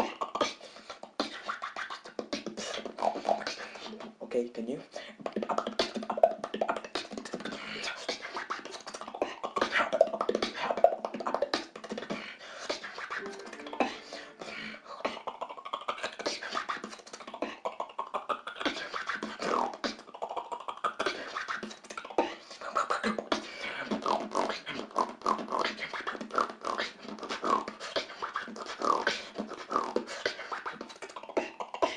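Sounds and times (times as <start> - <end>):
beatboxing over voice chat: 0.0 - 31.9.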